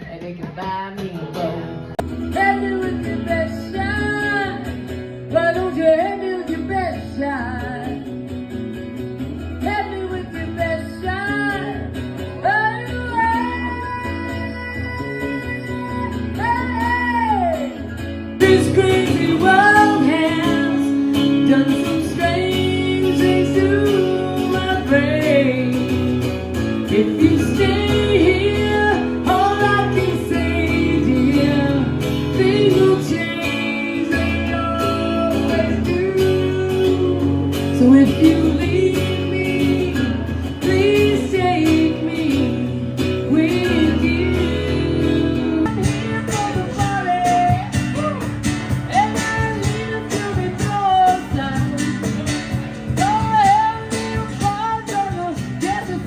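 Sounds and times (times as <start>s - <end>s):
acoustic country music: 0.0s - 56.0s.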